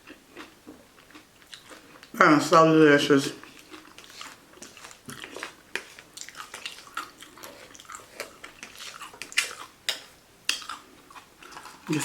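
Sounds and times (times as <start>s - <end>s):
person chewing food: 0.0s - 2.2s, 3.4s - 12.0s.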